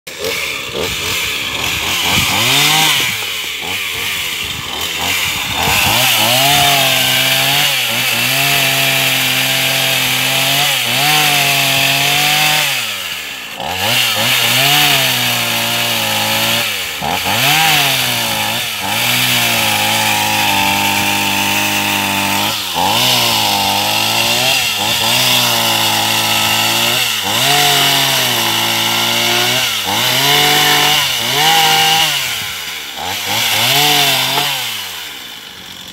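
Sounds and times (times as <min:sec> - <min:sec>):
chainsaw ripping wood: 0:00.1 - 0:35.9.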